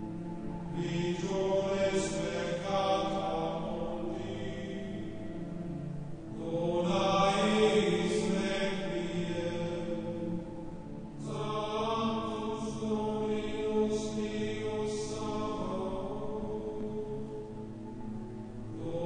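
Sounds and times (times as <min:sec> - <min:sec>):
slow sustained chanting voices: 0:00.0 - 0:19.0.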